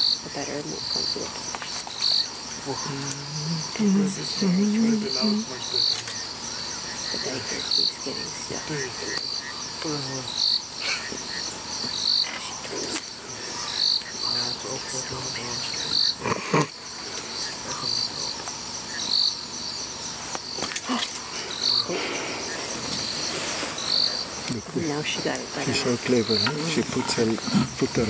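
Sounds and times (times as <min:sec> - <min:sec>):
insect trill: 0:00.0 - 0:28.0
insects chirping: 0:00.0 - 0:28.0.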